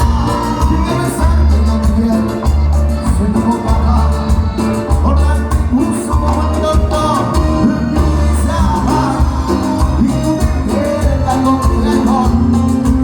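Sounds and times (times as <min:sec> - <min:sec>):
band playing dance music: 0:00.0 - 0:13.0
person singing: 0:00.0 - 0:13.0
pulsing bass beat: 0:00.0 - 0:13.0.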